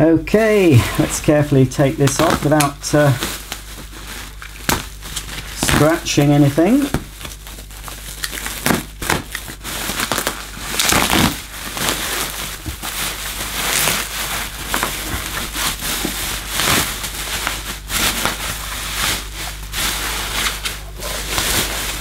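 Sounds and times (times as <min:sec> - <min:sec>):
bubble wrap crinkling: 0:00.4 - 0:22.0.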